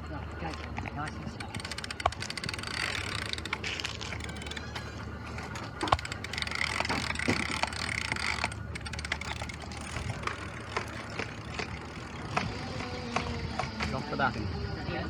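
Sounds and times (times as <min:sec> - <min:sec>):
mechanical clicks and knocks: 0:00.5 - 0:13.7.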